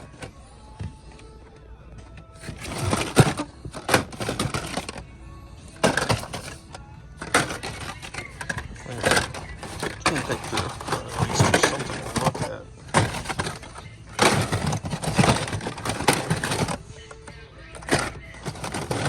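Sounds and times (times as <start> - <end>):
music: 0.0 - 19.0
toy cars clattering in packaging: 2.1 - 19.0.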